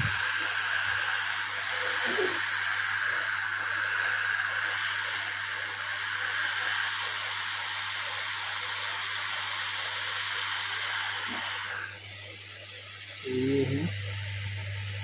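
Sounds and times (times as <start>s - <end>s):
hot air blowing hiss: 0.0s - 15.0s.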